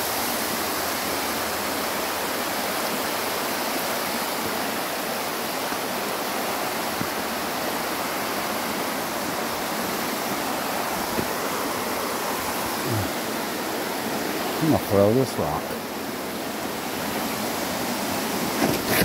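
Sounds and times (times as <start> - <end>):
water rushing down rock: 0.0 - 19.0.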